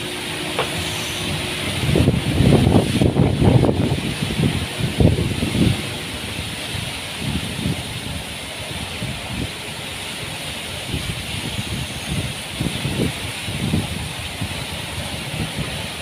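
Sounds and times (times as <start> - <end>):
heavy rain hissing: 0.0 - 16.0
wind buffeting microphone: 0.0 - 16.0.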